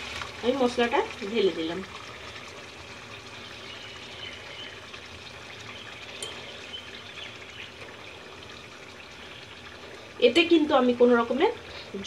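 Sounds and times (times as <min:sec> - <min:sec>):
gravy sizzling in a frying pan: 0:00.0 - 0:12.0.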